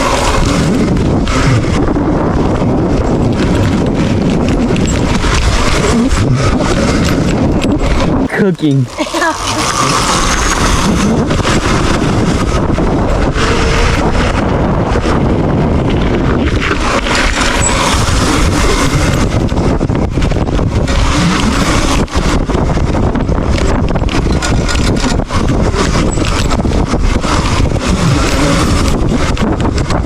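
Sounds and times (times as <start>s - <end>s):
dirt bike motor and wind noise: 0.0s - 30.0s.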